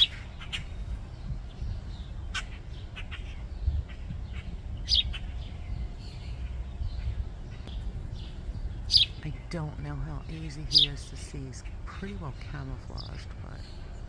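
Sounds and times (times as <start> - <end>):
sparrows chirping: 0.0 - 14.0
steady low rumble: 0.0 - 14.0.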